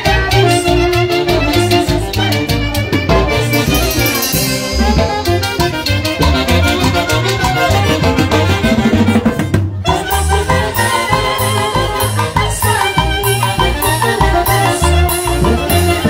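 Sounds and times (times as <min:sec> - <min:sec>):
drum kit beat: 0:00.0 - 0:16.0
saxophones and clarinet melody: 0:00.0 - 0:16.0.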